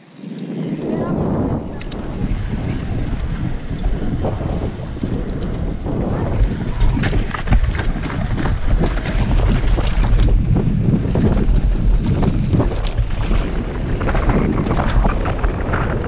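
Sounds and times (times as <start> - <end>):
wind rushing on microphone: 0.0 - 16.0
bike rattling and knocking: 1.5 - 16.0.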